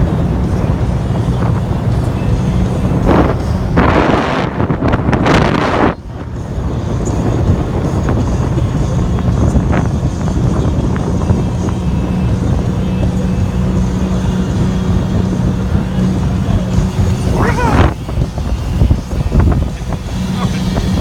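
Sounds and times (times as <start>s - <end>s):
boat engine droning: 0.0s - 21.0s
wind noise on microphone: 0.0s - 21.0s.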